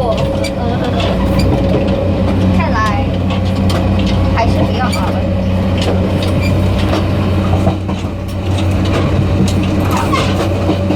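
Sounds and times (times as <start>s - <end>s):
low diesel drone: 0.0s - 10.9s.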